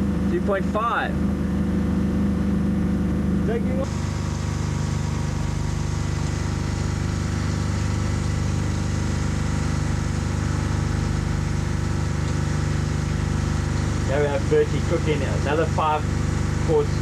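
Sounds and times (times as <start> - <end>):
steady engine drone: 0.0 - 17.0.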